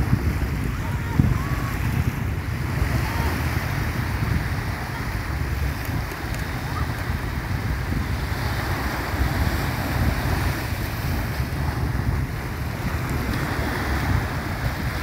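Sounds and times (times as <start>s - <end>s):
small waves washing on sand: 0.0s - 15.0s
wind buffeting microphone: 0.0s - 15.0s.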